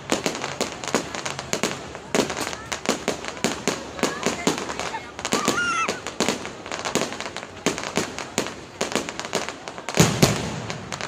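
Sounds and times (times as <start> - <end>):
fireworks bangs and crackles: 0.0 - 11.0
loud firework booms: 0.0 - 11.0.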